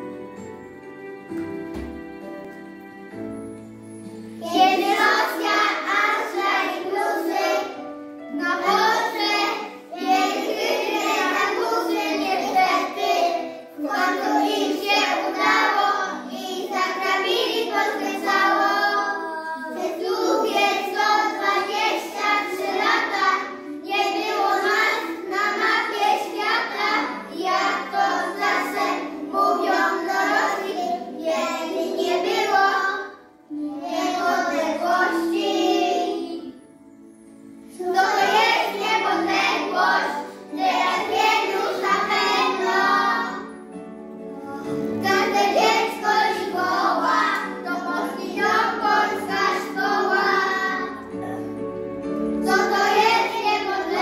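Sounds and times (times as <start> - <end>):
children singing in chorus: 4.4 - 36.6, 37.8 - 43.6, 44.4 - 51.5, 52.4 - 54.0.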